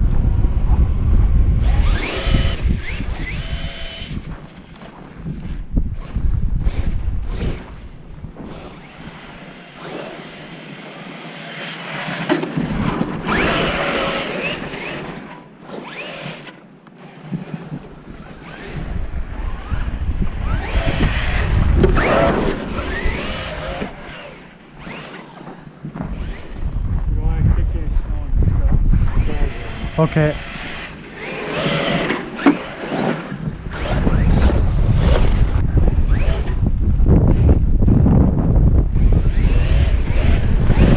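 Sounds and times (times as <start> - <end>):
wind rumble on microphone: 0.0 - 9.8, 12.5 - 15.0, 17.2 - 25.0, 25.8 - 40.9
rc truck motors whining: 0.3 - 26.8, 29.0 - 38.0, 38.9 - 40.9.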